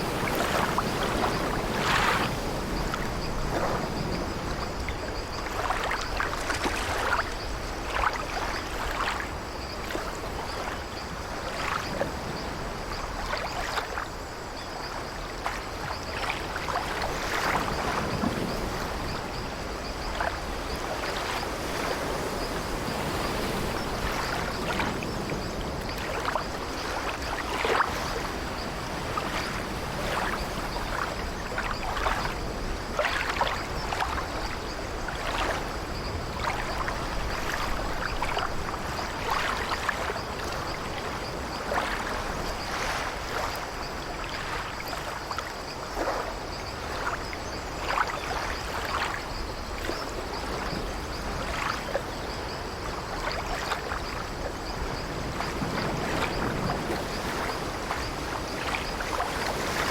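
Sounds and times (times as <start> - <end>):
waves washing against hull: 0.0 - 59.9.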